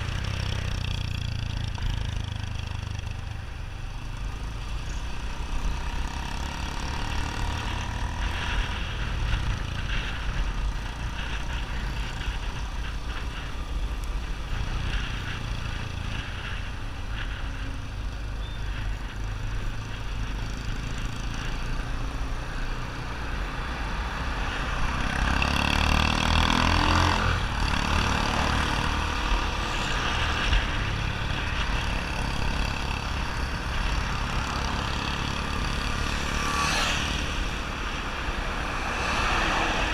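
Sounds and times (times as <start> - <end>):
motorcycle engine running: 0.0 - 39.2.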